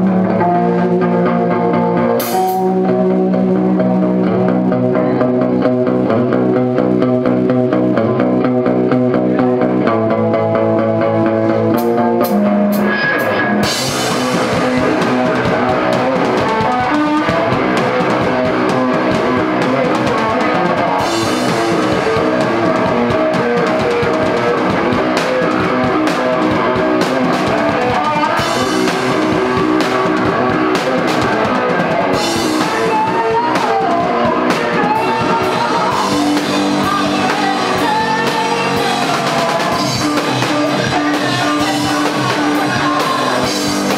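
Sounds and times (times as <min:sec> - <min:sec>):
drums crashing: 0:00.0 - 0:10.0, 0:10.9 - 0:43.9
rock band playing live: 0:00.0 - 0:43.9.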